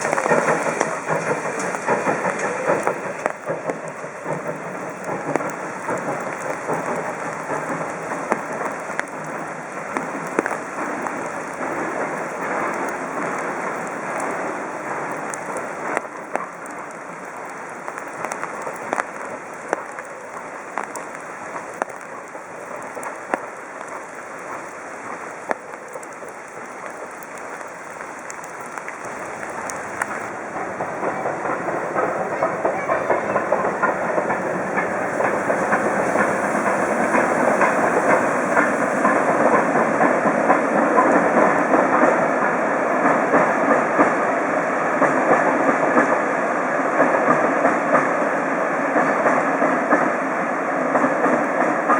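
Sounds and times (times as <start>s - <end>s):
steam train running: 0.0s - 51.9s
wheels clattering over rail joints: 0.0s - 51.9s.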